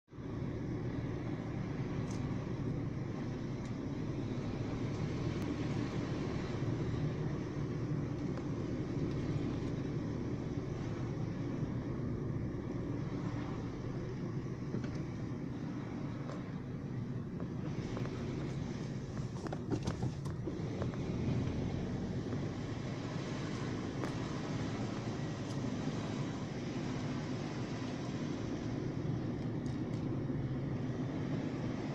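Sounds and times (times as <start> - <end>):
car engine and road noise: 0.0 - 31.9.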